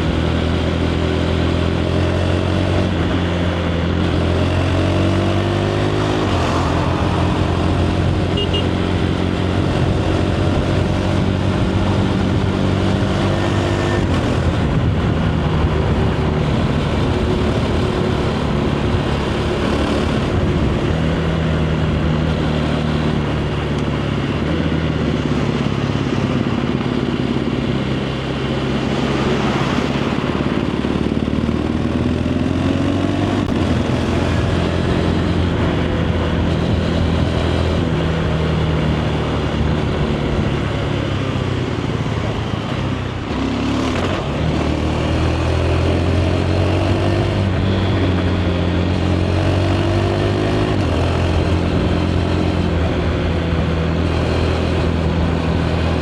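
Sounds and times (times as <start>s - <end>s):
motorcycle engine at road speed: 0.0s - 56.0s.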